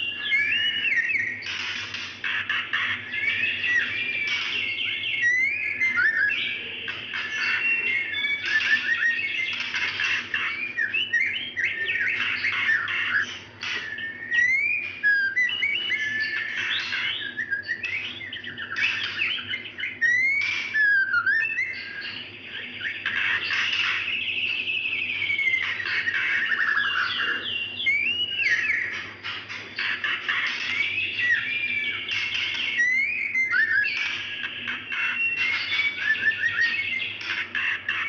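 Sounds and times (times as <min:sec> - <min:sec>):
bird calling with whistled notes: 0:00.0 - 0:38.0.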